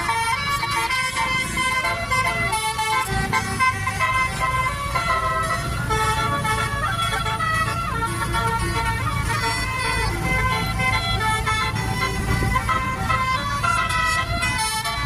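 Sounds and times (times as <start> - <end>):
low rumble of bus: 0.0 - 15.0
musical bus horn melody: 0.0 - 15.0.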